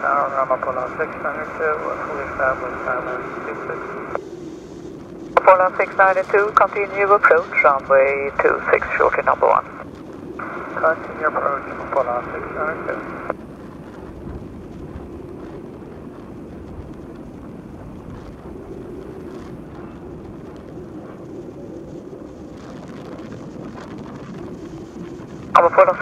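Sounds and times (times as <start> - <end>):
jet engines rumbling: 0.0 - 26.0
wind on microphone: 0.0 - 26.0.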